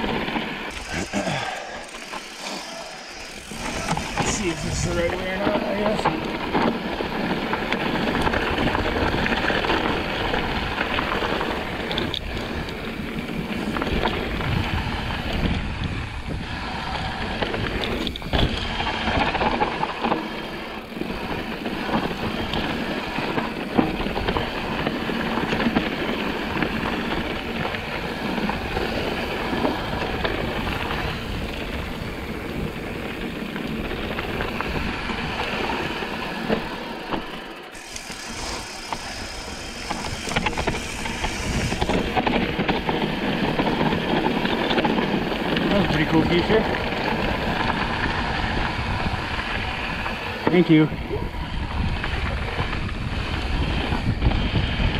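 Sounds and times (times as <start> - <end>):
bike rattling over rocks: 0.0 - 54.9
mountain bike tyre rush: 0.0 - 54.9.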